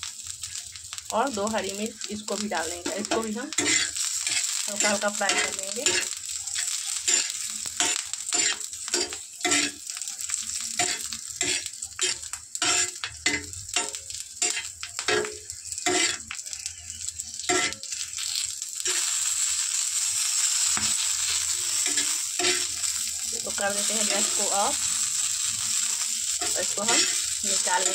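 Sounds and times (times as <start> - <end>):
chillies sizzling in oil: 0.0 - 27.9
spatula scraping a pan: 2.0 - 27.9.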